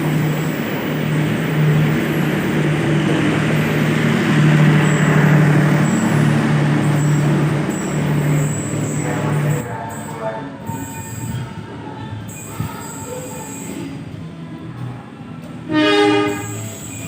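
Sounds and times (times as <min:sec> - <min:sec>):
train passing: 0:00.0 - 0:14.6.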